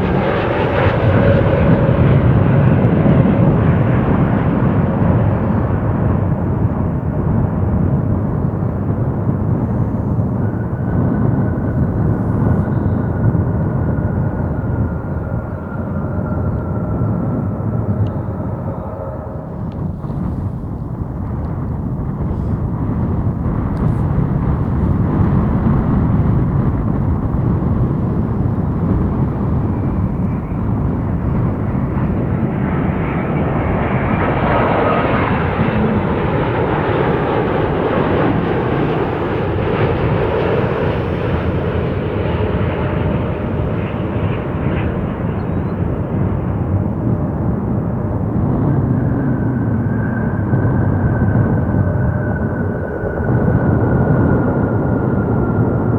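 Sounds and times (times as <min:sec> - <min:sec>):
jet plane passing: 0:00.0 - 0:55.9.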